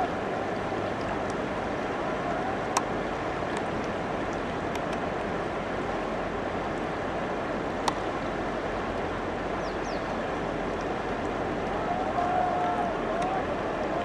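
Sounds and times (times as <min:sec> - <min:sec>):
river rapids rushing: 0:00.0 - 0:14.0.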